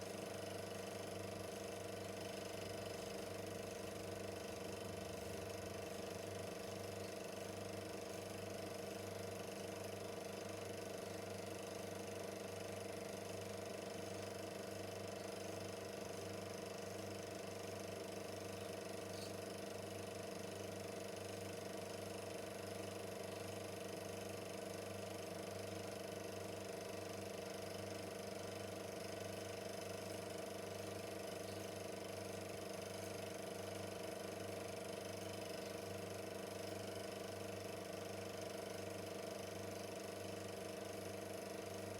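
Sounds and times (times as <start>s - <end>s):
film projector motor hum: 0.0s - 41.9s.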